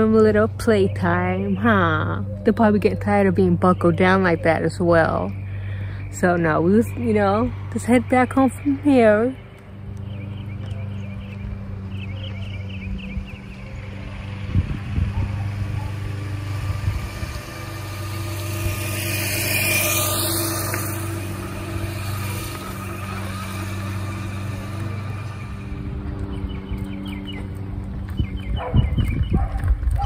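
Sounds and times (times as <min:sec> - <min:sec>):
car passing: 0:00.0 - 0:30.0
steady low hum: 0:00.0 - 0:30.0.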